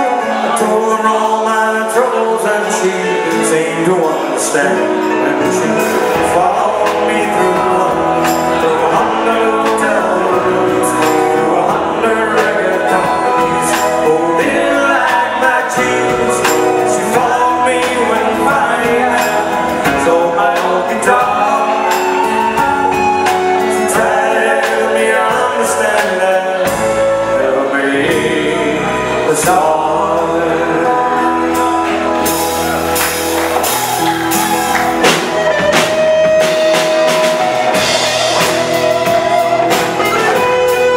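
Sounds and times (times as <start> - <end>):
live pop-rock band playing: 0.0 - 40.9
man singing: 0.0 - 40.9.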